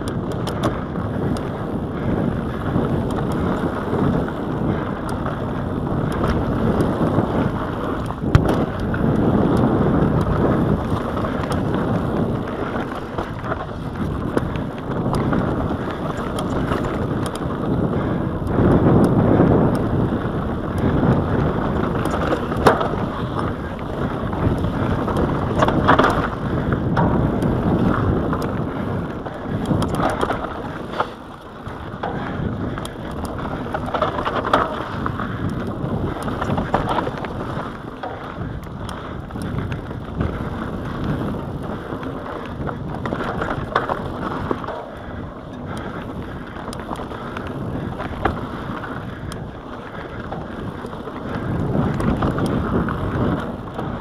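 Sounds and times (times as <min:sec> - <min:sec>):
bike rattling over bumps: 0:00.0 - 0:54.0
tyres crunching on dirt: 0:00.0 - 0:54.0
wind buffeting microphone: 0:00.0 - 0:54.0.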